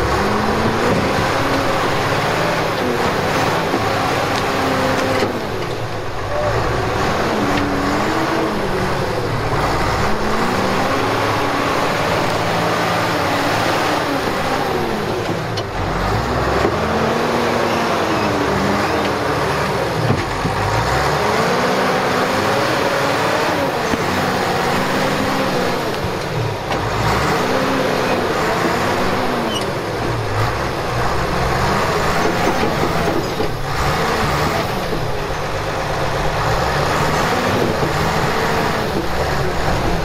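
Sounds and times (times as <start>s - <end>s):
diesel engine revving: 0.0s - 40.0s.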